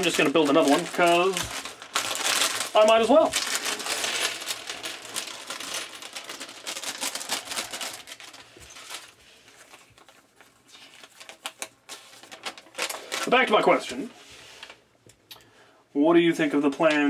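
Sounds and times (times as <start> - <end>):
plastic bag crinkling and tearing: 0.0 - 14.8.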